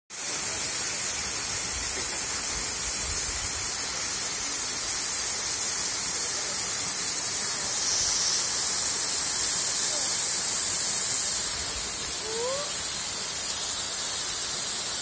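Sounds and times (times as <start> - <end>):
waterfall splashing on rocks: 0.1 - 15.0.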